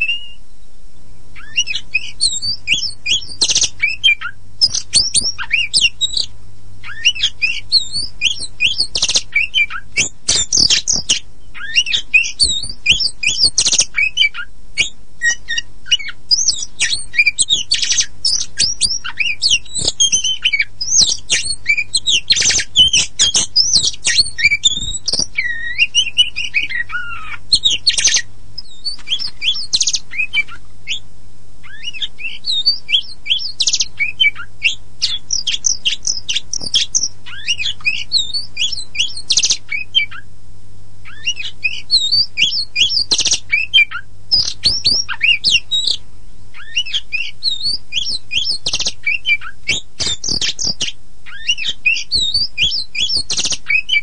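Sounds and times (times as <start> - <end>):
faint low hum: 0.0 - 54.0
bird singing rapid whistled runs: 1.4 - 31.0, 31.6 - 40.3, 41.0 - 54.0.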